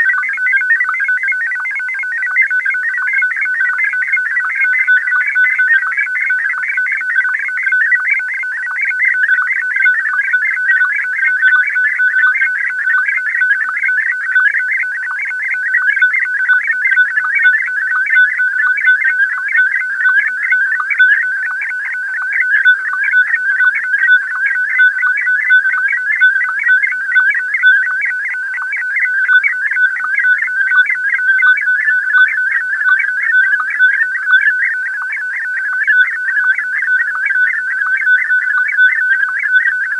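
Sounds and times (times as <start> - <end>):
high warbling data signal tone: 0.0 - 39.9.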